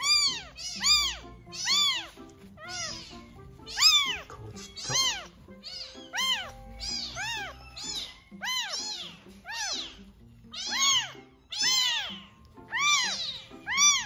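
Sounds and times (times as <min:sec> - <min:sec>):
kitten mewing: 0:00.0 - 0:14.0.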